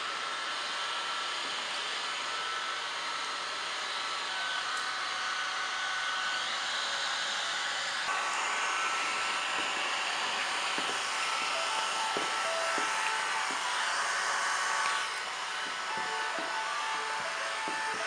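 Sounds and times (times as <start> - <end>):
heat gun blowing air: 0.0 - 18.0.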